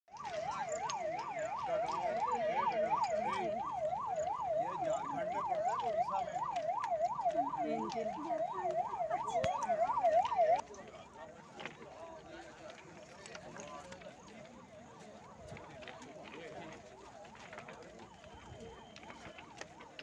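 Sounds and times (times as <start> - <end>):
emergency siren fast wail: 0.1 - 10.6, 14.4 - 20.0.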